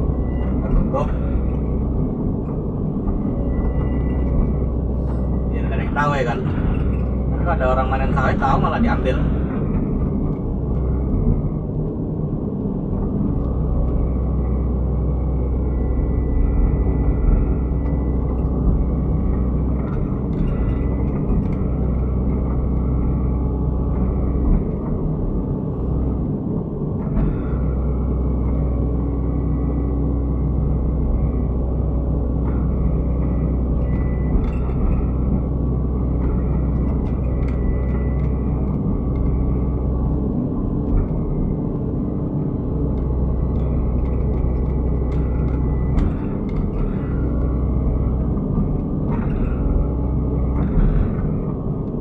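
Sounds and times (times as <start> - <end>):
excavator diesel engine droning: 0.0 - 52.0.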